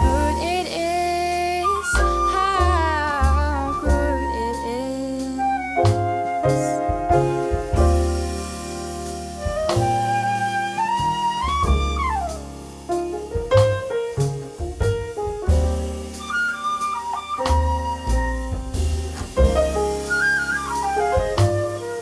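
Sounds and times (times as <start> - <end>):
flute melody: 0.0 - 12.6, 15.5 - 22.0
bass: 0.0 - 22.0
drums: 0.0 - 22.0
piano chords: 0.0 - 22.0.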